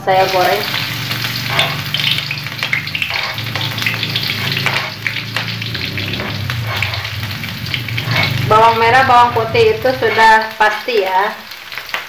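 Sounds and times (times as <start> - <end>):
vegetables sizzling in hot oil: 0.0 - 12.0
metal spatula scraping board: 0.2 - 10.6.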